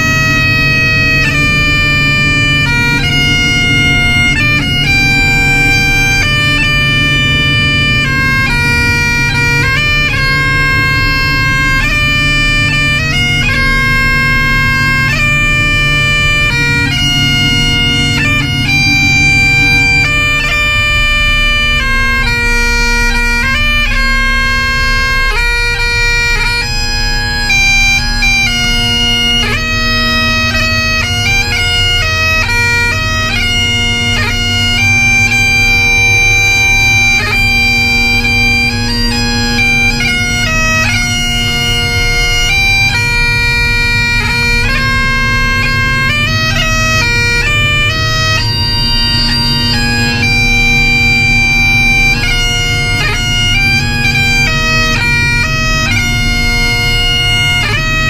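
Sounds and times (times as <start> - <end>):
bagpipe music: 0.0 - 58.0.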